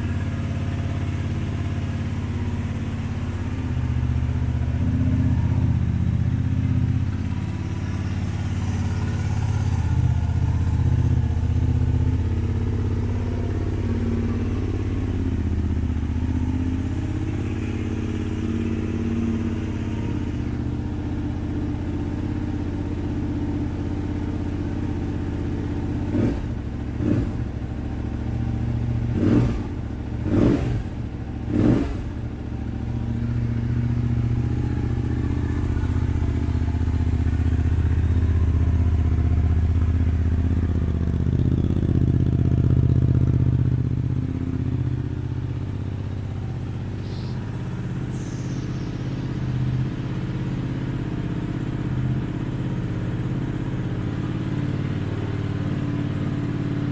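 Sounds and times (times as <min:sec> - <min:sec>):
motorcycle engine idling: 0:00.0 - 0:56.9
motorcycle throttle blips: 0:00.0 - 0:56.9.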